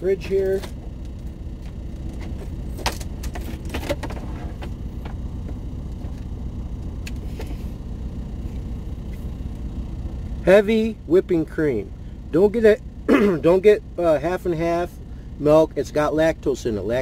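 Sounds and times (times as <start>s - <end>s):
low rumble in truck cab: 0.0s - 17.0s.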